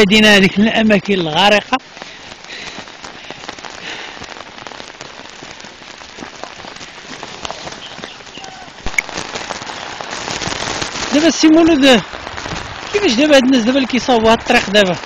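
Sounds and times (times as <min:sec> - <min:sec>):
floodwater splashing rush: 0:00.0 - 0:15.0.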